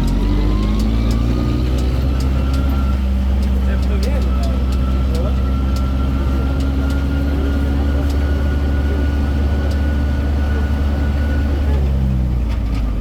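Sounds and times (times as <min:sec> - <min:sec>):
engine deep hum: 0:00.0 - 0:13.0.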